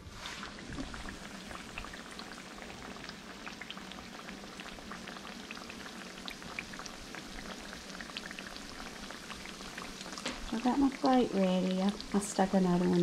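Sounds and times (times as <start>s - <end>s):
food frying in grease: 0.0s - 13.0s.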